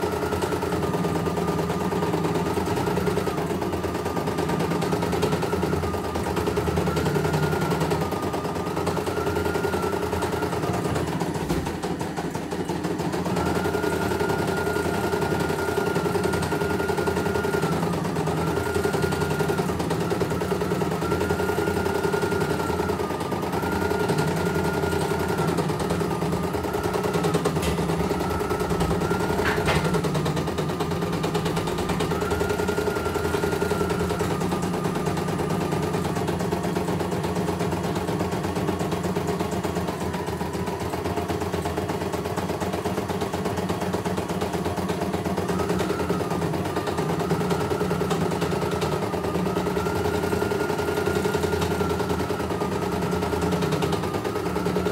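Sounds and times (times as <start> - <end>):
motor whine: 0.0 - 54.9.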